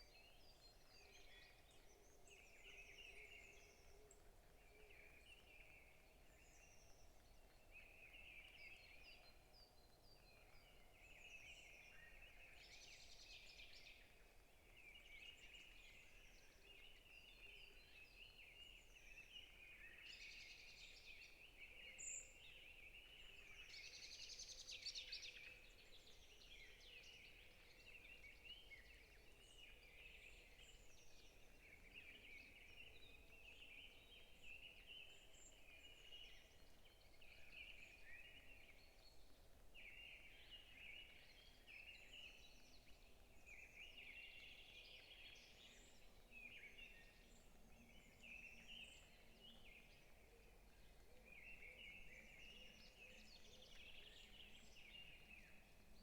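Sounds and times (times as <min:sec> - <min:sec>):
forest birds chirping: 0:00.0 - 0:56.0.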